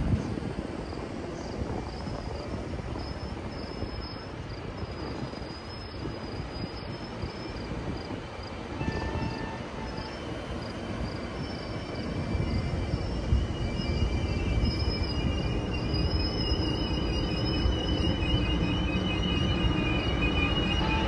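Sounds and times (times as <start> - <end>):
train wheels rumbling on rails: 0.0 - 21.0
high wheel squeals: 1.8 - 8.1, 8.7 - 21.0.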